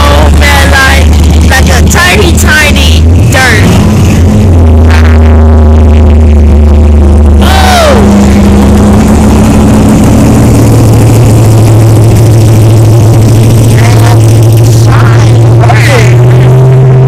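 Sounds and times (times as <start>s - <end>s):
car low drone: 0.0s - 17.0s
short falling tone: 3.0s - 17.0s.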